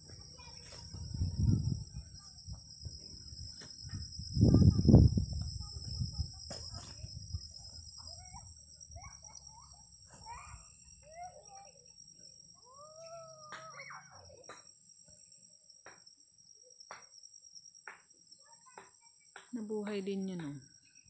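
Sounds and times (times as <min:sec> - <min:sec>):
high-pitched insect trills: 0:00.0 - 0:21.0.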